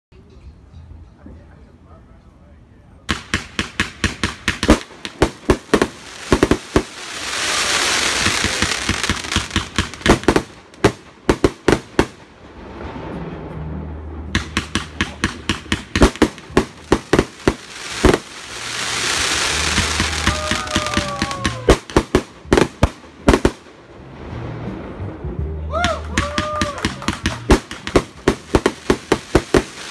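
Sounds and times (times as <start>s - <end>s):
firework crackling sizzle: 3.1s - 13.4s, 14.3s - 25.2s, 25.8s - 29.9s
firework bangs: 3.1s - 25.2s, 25.8s - 29.9s.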